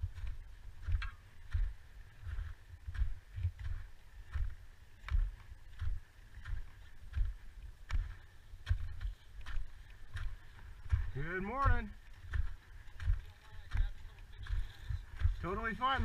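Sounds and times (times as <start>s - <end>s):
footsteps crunching on snow: 0.0s - 16.0s.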